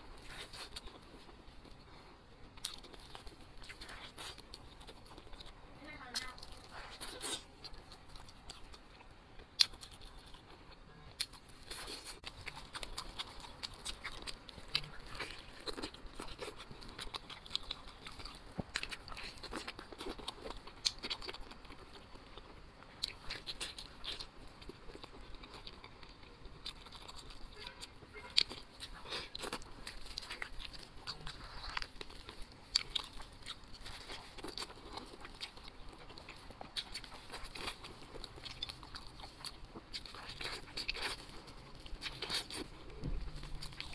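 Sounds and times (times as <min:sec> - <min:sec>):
person chewing meat: 0:00.0 - 0:05.6, 0:06.4 - 0:43.9.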